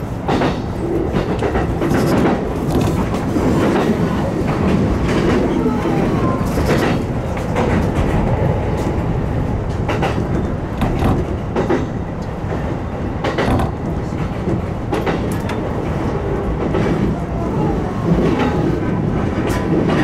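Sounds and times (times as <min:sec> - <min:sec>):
wheels clicking over rail joints: 0:00.0 - 0:17.2
train rumbling on track: 0:00.0 - 0:20.0.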